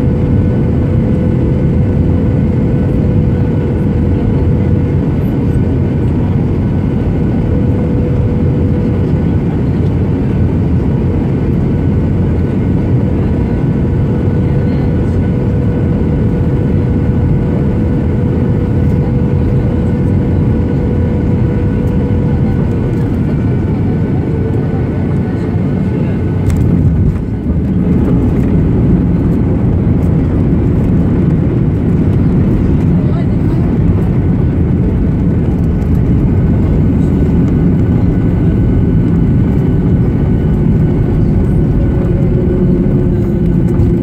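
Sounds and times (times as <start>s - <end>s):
airflow rush in aircraft cabin: 0.0s - 44.0s
jet engines: 0.0s - 44.0s.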